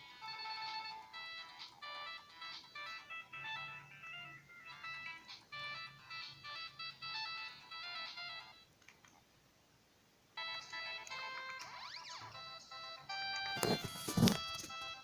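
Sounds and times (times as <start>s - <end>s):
electronic ringtone tune: 0.0s - 8.6s, 10.4s - 15.0s.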